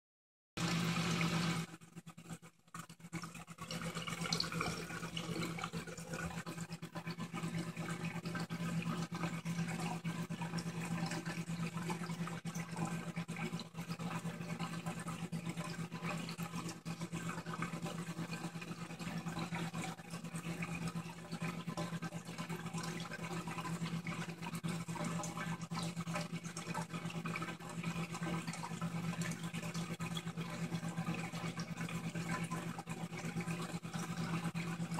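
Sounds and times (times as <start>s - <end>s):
pump humming: 0.6s - 34.9s
water churning and bubbling: 0.6s - 34.9s.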